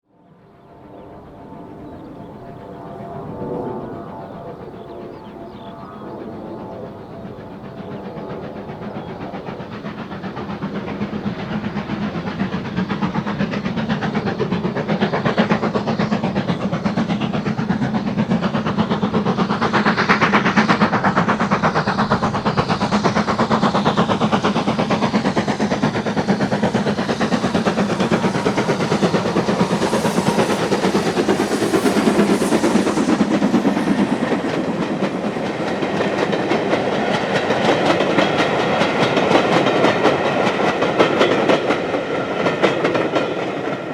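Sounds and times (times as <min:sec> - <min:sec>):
train wheels on rails: 0:01.9 - 0:43.9.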